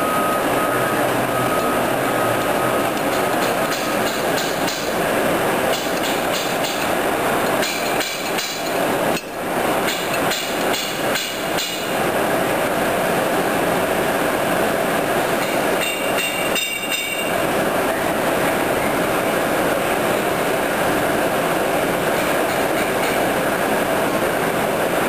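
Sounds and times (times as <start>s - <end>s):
boring mill running: 0.0s - 25.0s.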